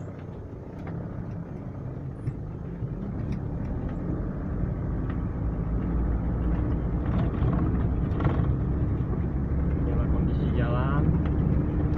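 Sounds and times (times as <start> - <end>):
vehicle driving on rough road: 0.0 - 11.9.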